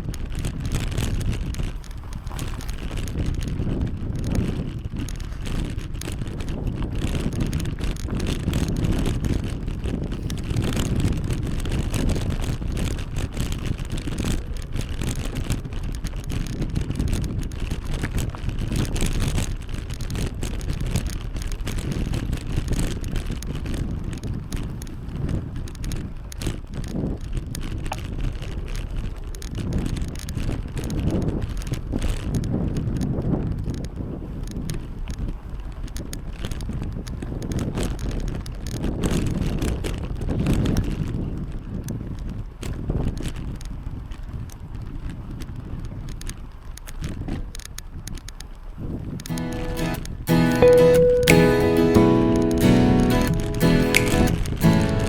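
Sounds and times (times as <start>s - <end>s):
wind buffeting microphone: 0.0s - 50.3s.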